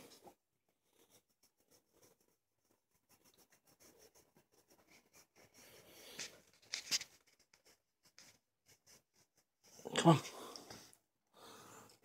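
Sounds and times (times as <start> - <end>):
faint scratching and rustling: 0.0 - 11.0.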